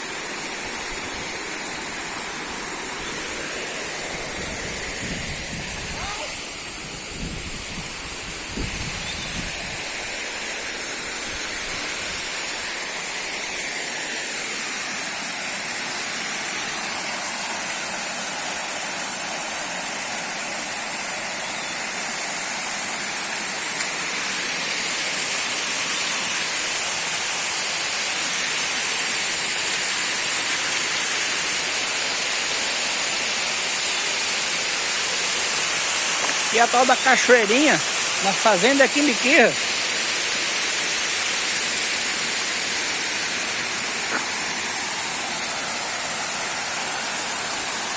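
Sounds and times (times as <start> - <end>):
small waterfall splashing: 0.0 - 47.9.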